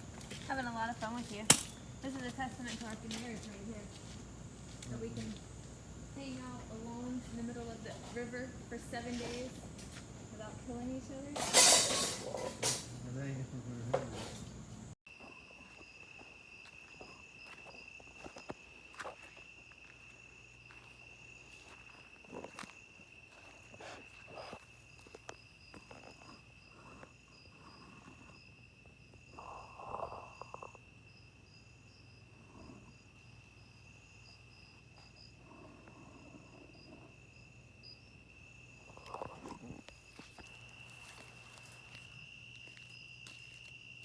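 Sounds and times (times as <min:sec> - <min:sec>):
pulsing insect chorus: 0:00.0 - 0:44.0.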